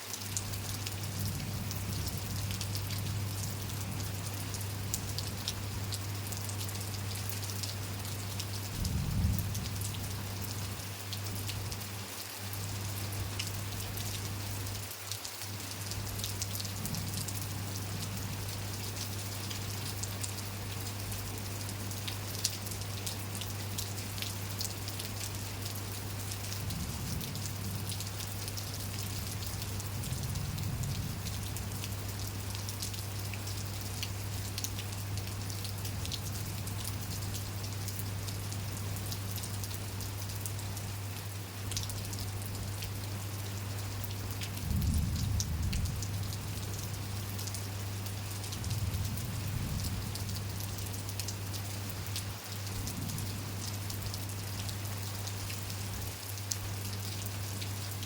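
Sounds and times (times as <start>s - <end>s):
rain falling: 0.0s - 58.0s
raindrops ticking on surfaces: 0.0s - 58.0s.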